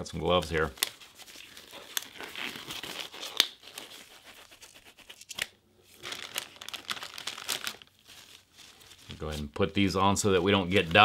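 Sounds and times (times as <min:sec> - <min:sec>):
plastic packaging crinkling: 0:00.1 - 0:11.0.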